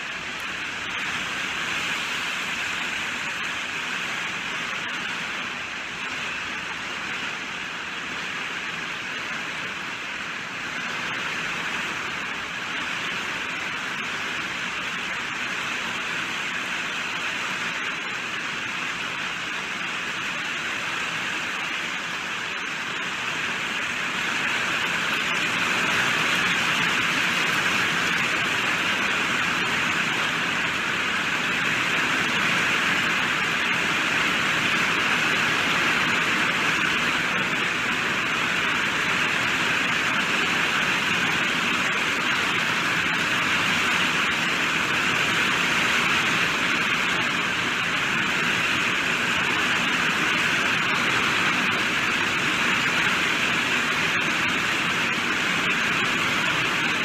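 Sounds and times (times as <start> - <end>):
heavy rainfall hiss: 0.0 - 57.0.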